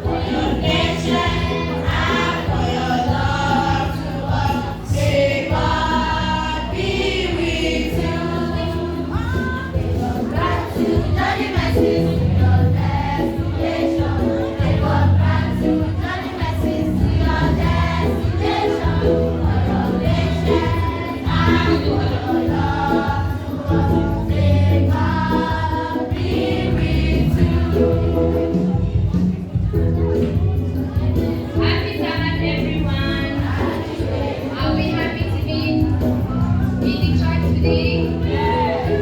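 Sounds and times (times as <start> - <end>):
choir singing gospel: 0.0 - 28.8, 31.2 - 39.0
accompanying music with bass: 0.0 - 39.0.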